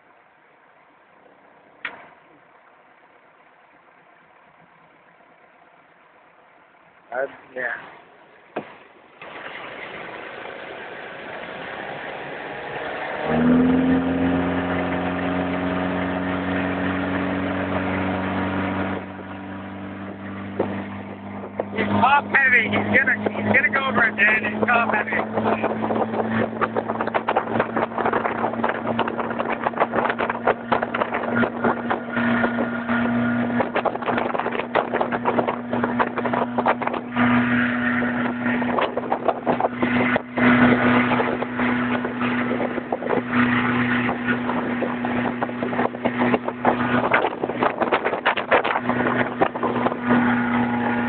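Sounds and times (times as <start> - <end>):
motorboat engine running: 9.2 - 51.0.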